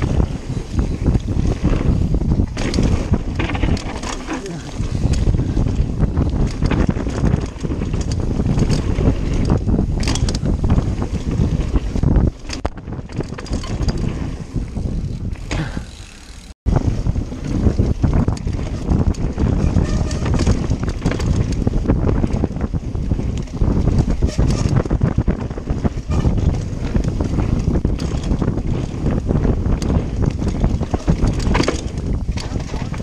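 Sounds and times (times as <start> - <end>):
bike rattling and knocking: 0.0 - 33.0
wind buffeting microphone: 0.0 - 33.0.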